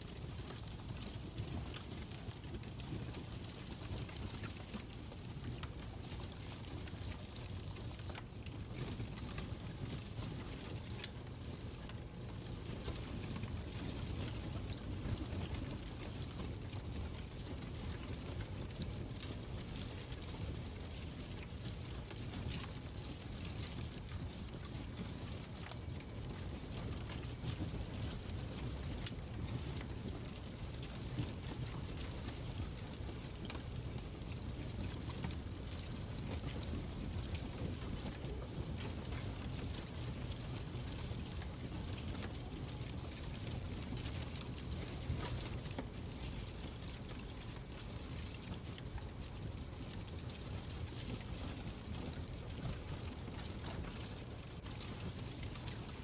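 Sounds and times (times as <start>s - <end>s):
faint fire crackles: 0.0s - 56.0s
fireplace rumble and hiss: 0.0s - 56.0s.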